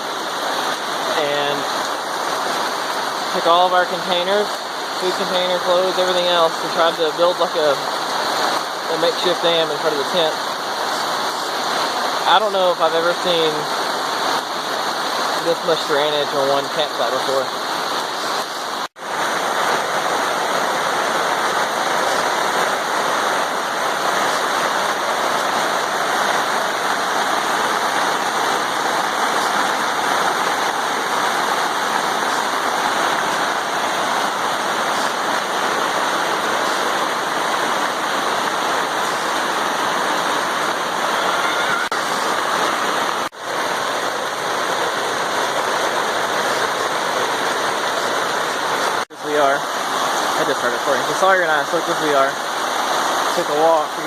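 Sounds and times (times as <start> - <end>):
heavy rain pouring: 0.0 - 54.0
runoff water rushing: 0.0 - 54.0.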